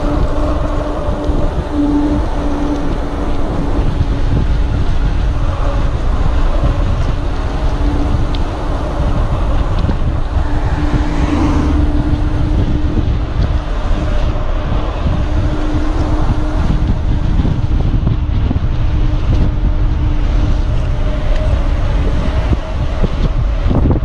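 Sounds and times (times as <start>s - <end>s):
low hum: 0.0s - 23.7s
tyres rolling on asphalt: 0.0s - 24.0s
wind buffeting microphone: 0.0s - 24.0s.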